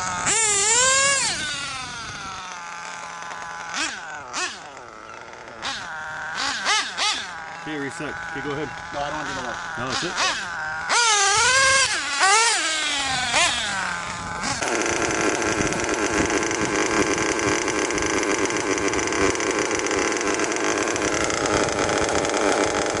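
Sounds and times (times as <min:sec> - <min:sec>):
small nitro engine revving: 0:00.0 - 0:23.0.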